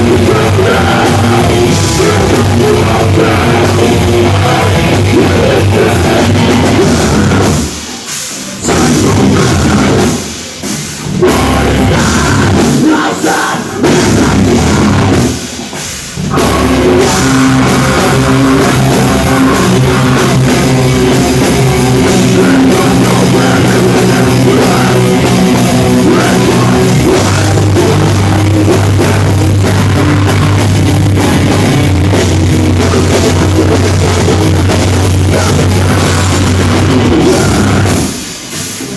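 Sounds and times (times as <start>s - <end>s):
person singing: 0.0s - 7.6s, 8.5s - 10.2s, 11.2s - 15.4s, 16.3s - 38.2s
live metal band playing: 0.0s - 38.9s.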